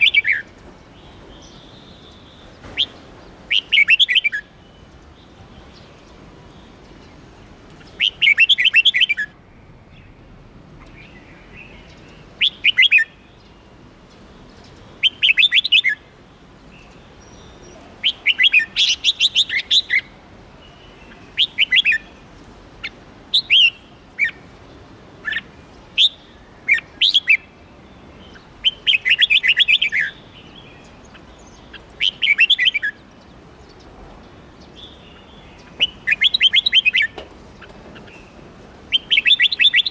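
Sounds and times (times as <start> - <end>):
bird singing bright phrases: 0.0 - 39.9.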